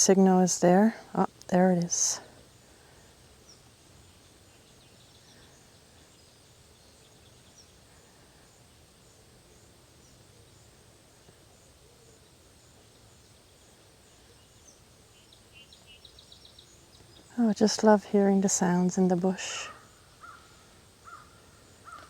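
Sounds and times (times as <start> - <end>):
low steady hiss: 0.0 - 22.0.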